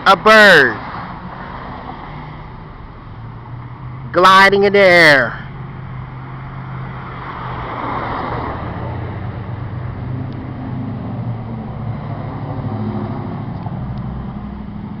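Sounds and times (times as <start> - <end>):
motor vehicle engine drone: 0.0 - 15.0
noisy rush: 0.0 - 15.0.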